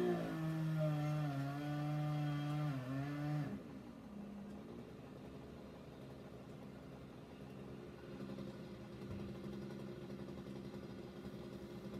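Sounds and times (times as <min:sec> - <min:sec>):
chainsaw running: 0:00.0 - 0:07.2, 0:07.8 - 0:11.9.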